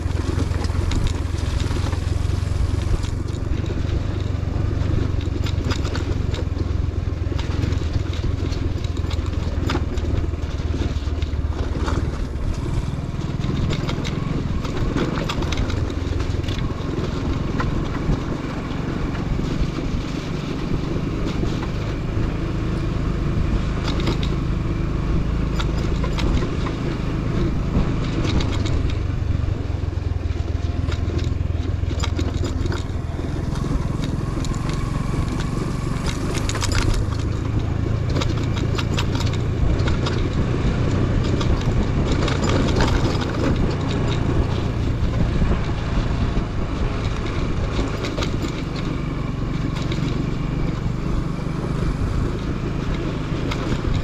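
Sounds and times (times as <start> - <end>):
motorcycle engine running: 0.0 - 54.0
small clicks and rattles: 0.0 - 54.0.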